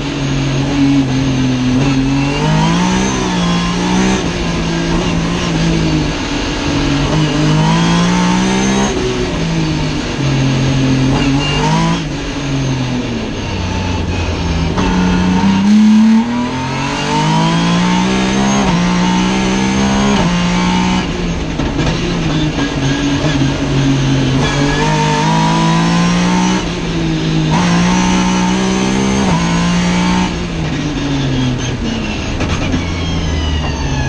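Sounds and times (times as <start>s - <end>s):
racing car engine accelerating: 0.0s - 34.0s.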